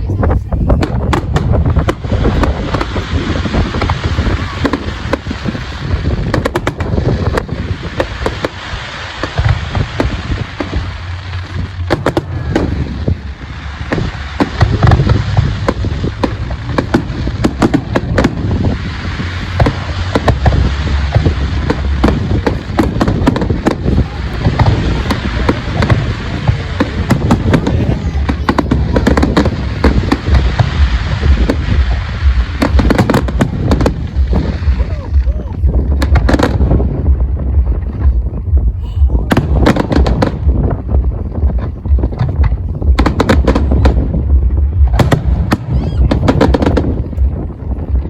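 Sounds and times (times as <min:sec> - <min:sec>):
deep rumble of booms: 0:00.0 - 0:48.0
fireworks bangs and crackles: 0:00.0 - 0:48.0.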